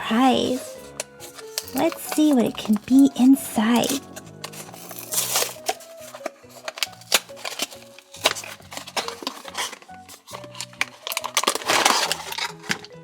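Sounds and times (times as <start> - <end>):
background music: 0.0 - 13.0
plastic package being opened: 0.0 - 13.0.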